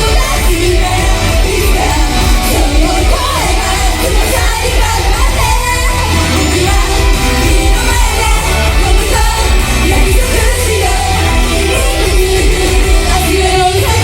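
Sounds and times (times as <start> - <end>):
group singing: 0.0 - 14.0
pop song over loudspeakers: 0.0 - 14.0.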